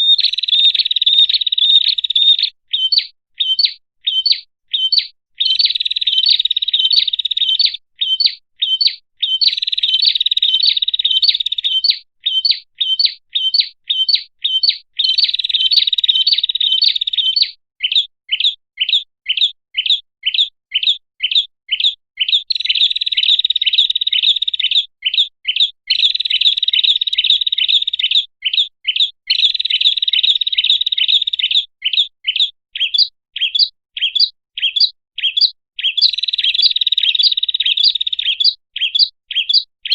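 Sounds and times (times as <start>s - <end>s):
bird sharp chirps: 0.0s - 39.9s.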